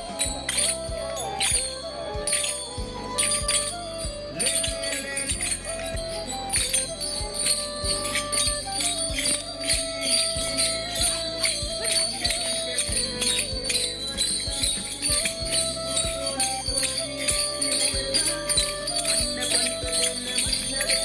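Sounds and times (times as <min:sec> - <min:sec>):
upbeat music with bells: 0:00.0 - 0:21.0.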